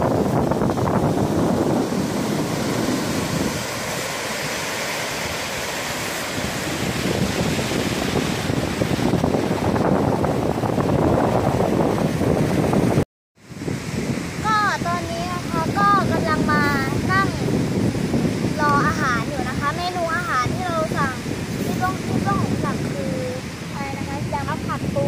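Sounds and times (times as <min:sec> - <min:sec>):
waves washing on sandy beach: 0:00.0 - 0:25.0
wind rumbling on microphone: 0:00.0 - 0:25.0.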